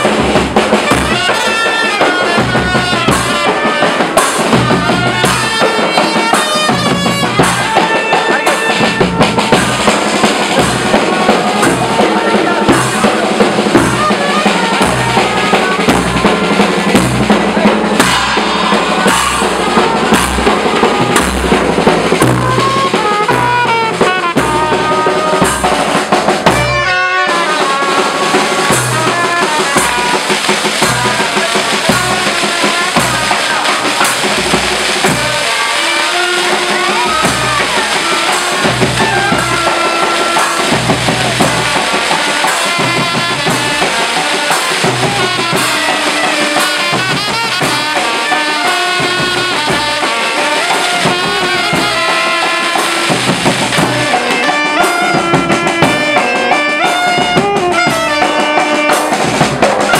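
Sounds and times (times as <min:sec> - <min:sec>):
bass drum and drums beating: 0:00.0 - 0:59.9
saxophones playing melody: 0:00.0 - 0:59.9.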